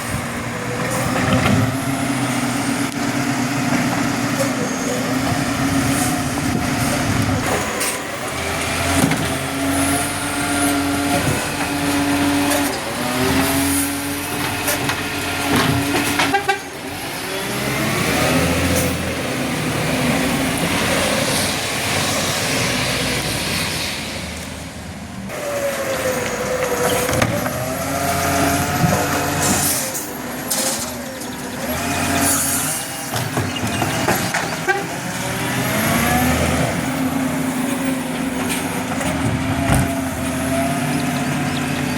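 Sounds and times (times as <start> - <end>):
garbage truck diesel engine: 0.0 - 41.9.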